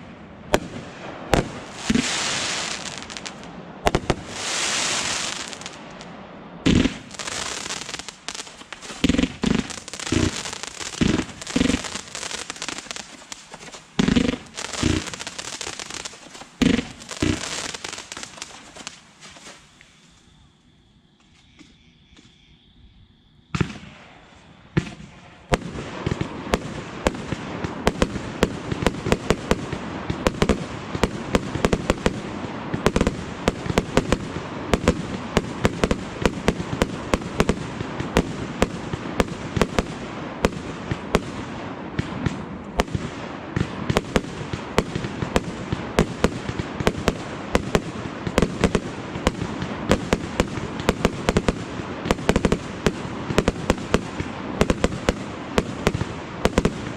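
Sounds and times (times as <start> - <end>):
fireworks barrage of cracks: 0.0 - 19.7, 23.6 - 56.9
fireworks bangs: 0.0 - 19.8, 23.5 - 56.9.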